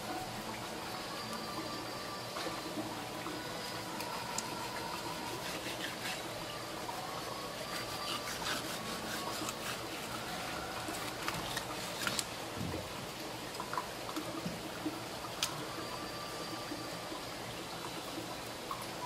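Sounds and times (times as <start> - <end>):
steady watery hiss: 0.0 - 19.0.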